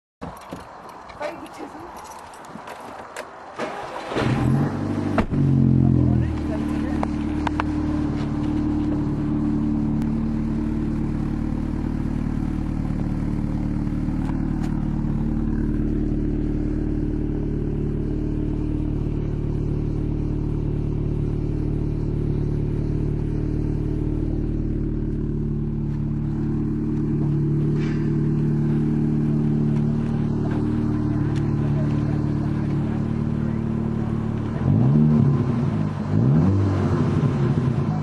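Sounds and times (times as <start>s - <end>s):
car engine idling deep drone: 4.4s - 38.0s.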